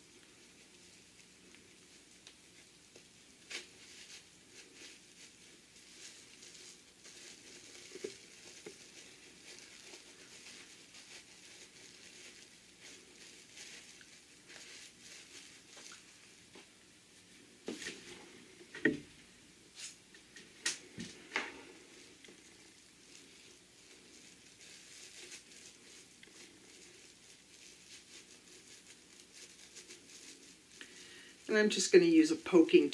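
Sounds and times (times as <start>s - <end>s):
fabric rustling and crinkling: 0.0s - 18.7s, 19.7s - 32.9s.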